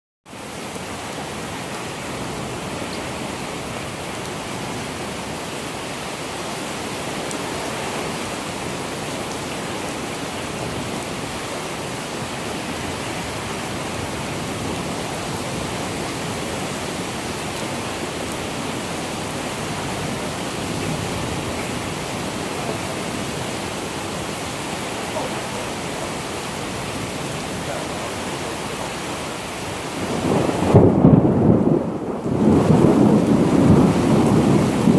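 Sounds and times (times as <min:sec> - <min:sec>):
steady rain hiss: 0:00.3 - 0:34.9.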